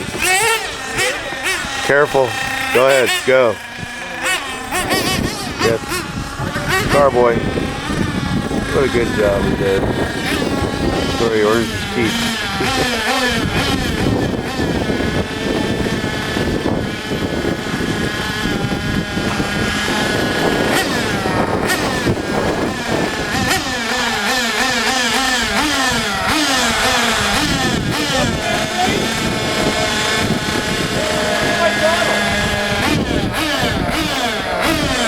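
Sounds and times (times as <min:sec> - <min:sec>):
rc car engines revving: 0:00.0 - 0:35.0.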